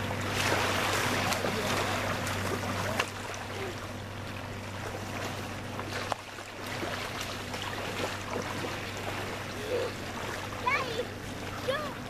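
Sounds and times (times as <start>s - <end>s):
motorboat engines droning: 0.0s - 12.0s.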